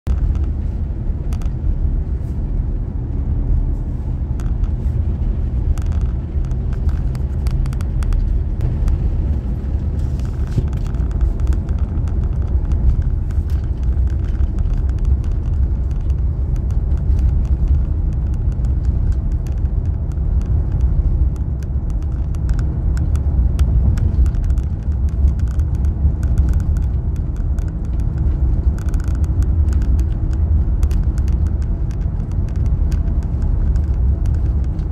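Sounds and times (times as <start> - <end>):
car interior road rumble: 0.1 - 34.9.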